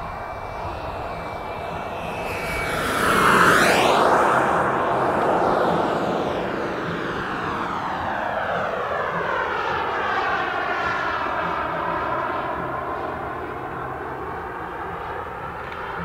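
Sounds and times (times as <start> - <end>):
jet turbine whine: 0.0 - 16.0
loud rush of passing jet: 0.0 - 16.0.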